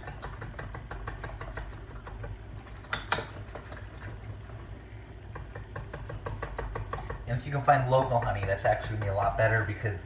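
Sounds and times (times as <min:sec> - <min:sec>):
utensil beating in glass cup: 0:00.0 - 0:03.9, 0:05.3 - 0:09.6
utensil clacking on glass: 0:00.0 - 0:03.9, 0:05.3 - 0:09.5.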